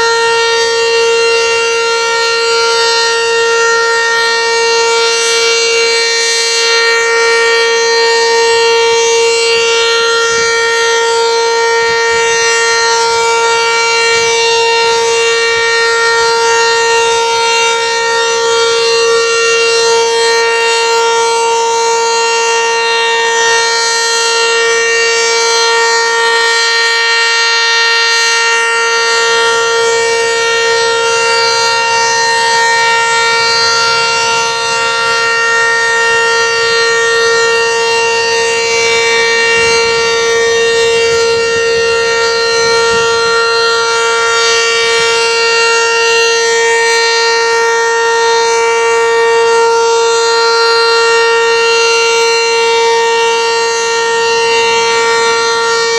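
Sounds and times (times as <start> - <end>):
warning siren steady tone: 0.0 - 55.9.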